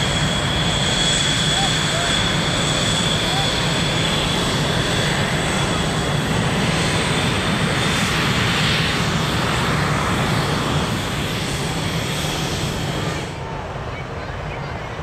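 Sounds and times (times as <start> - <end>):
high turbine whine: 0.0 - 15.0
jet engines taxiing: 0.0 - 15.0.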